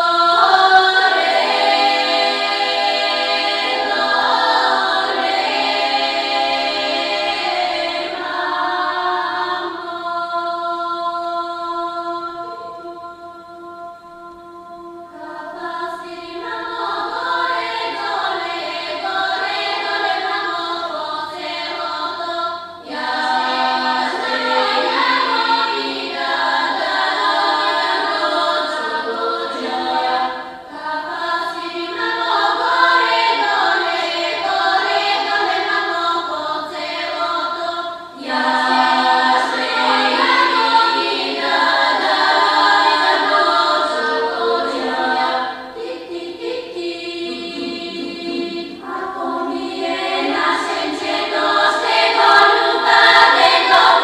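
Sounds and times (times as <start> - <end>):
choir singing held chords: 0.0 - 54.0.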